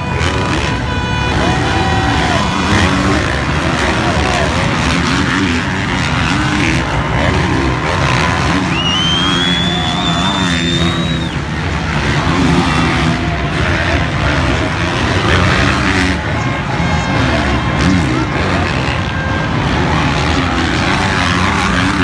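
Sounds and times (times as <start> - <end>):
high engine whine: 0.0 - 22.0
motocross bikes racing: 0.0 - 22.0.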